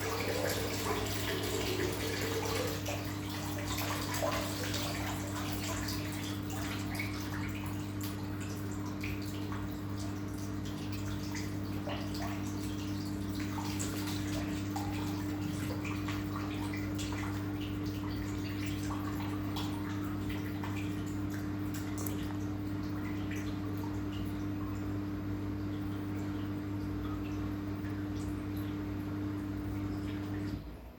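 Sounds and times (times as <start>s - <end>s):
washing machine humming: 0.0s - 30.9s
water sloshing in machine: 0.0s - 30.9s.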